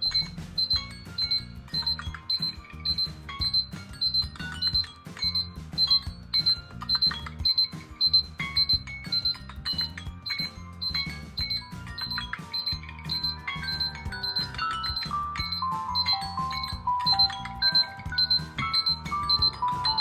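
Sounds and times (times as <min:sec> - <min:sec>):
high beep repeating: 0:00.0 - 0:20.0
melody and bass line: 0:00.0 - 0:20.0
smartphone alarm tone: 0:00.0 - 0:20.0.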